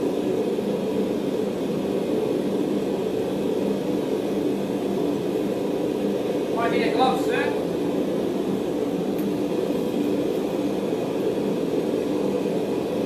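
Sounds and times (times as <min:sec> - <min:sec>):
forge running: 0:00.0 - 0:13.0.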